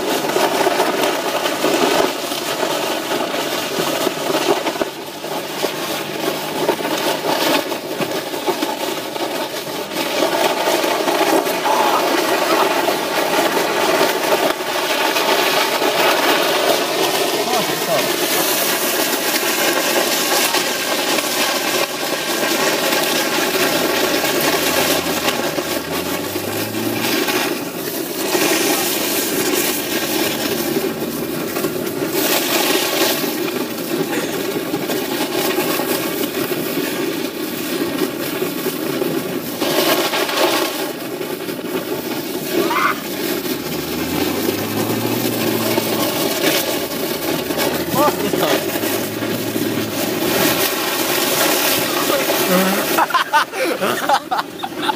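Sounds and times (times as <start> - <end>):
car engine and tyres on snow: 0.0 - 54.9.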